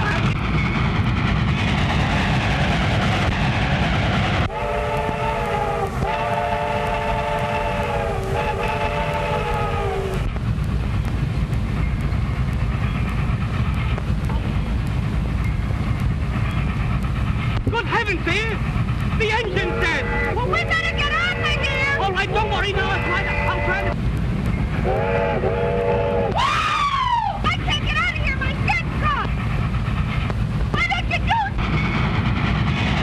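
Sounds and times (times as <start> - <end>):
steam locomotive rumbling: 0.0 - 33.0.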